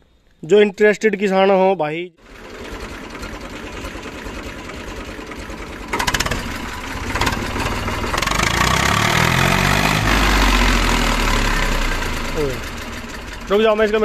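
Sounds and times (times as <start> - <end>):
tractor diesel engine idling: 2.2 - 14.0.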